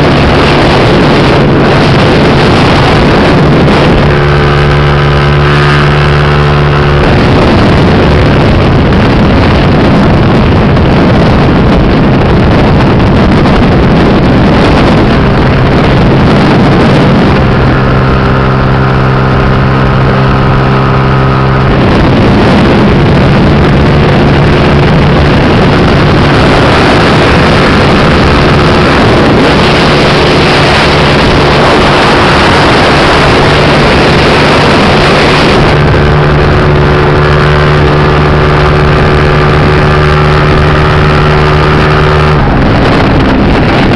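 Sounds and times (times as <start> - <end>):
scooter engine running: 0.0 - 43.9
wind noise on microphone: 0.0 - 43.9.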